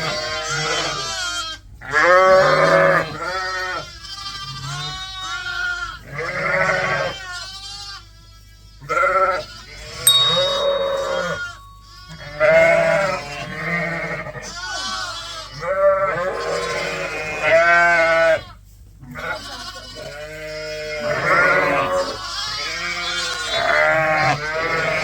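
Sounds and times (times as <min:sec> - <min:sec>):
sheep and lambs bleating: 0:00.0 - 0:09.8, 0:13.0 - 0:25.0.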